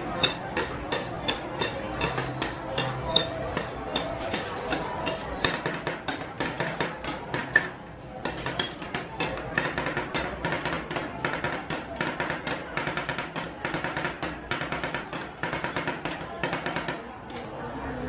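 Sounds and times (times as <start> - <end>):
metal spatulas tapping on steel: 0.1 - 17.5.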